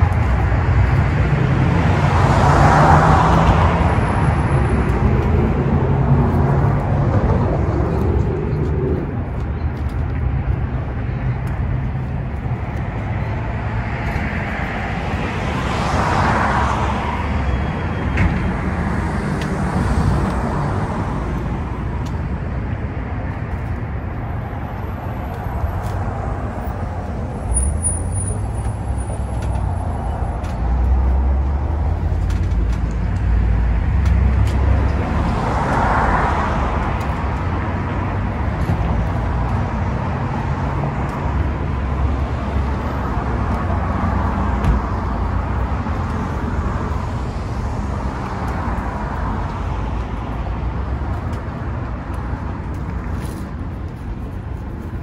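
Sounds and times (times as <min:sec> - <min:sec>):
road traffic noise: 0:00.0 - 0:55.0
vehicles passing: 0:00.0 - 0:55.0.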